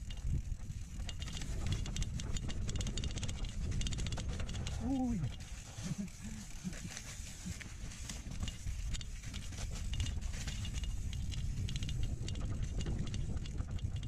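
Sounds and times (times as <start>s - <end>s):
bike clattering over bumps: 0.0s - 6.2s, 7.0s - 14.0s
low wind rumble: 0.0s - 14.0s.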